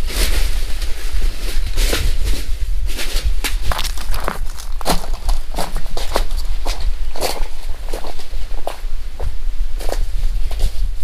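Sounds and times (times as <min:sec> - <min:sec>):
footsteps on dry leaves: 0:00.0 - 0:10.8.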